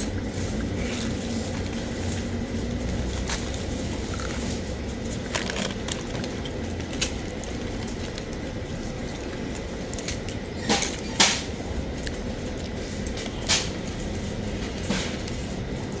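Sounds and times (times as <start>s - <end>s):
crunching fried chicken: 0.5s - 13.9s.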